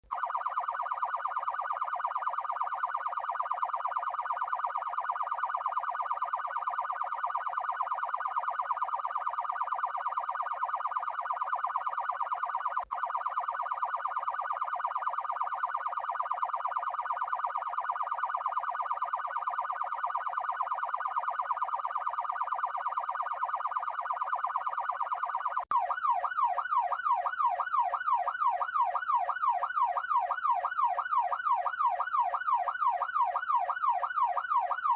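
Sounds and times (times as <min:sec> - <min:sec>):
police siren wailing: 0:00.0 - 0:34.9.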